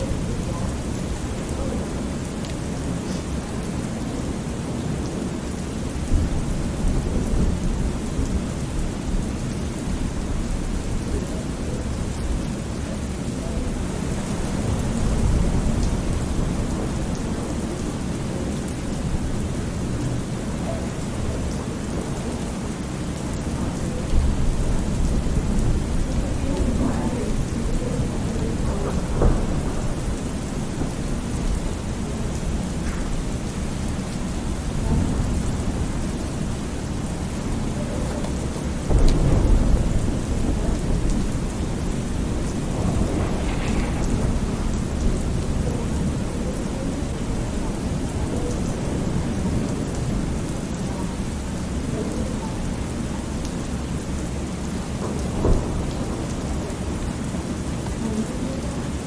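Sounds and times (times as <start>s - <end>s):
steady rain: 0.0s - 59.0s
low rolling thunder: 5.9s - 57.8s.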